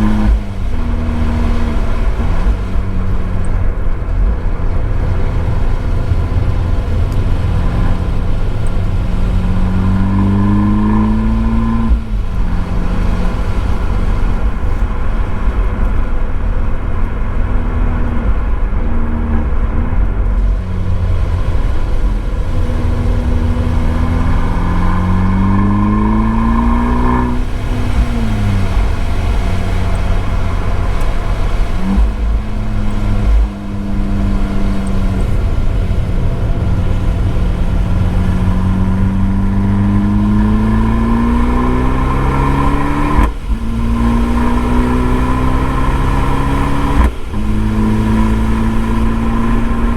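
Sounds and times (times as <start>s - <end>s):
car engine revving on track: 0.0s - 49.9s.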